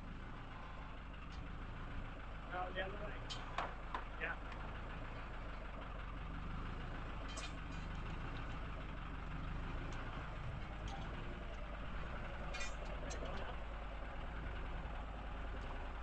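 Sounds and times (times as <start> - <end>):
steady low motor hum: 0.0 - 16.0.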